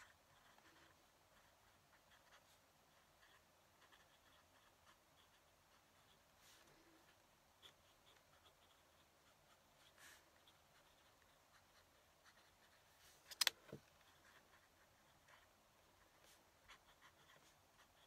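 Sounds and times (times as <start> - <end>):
pen nib scratching on paper: 0.0 - 18.0.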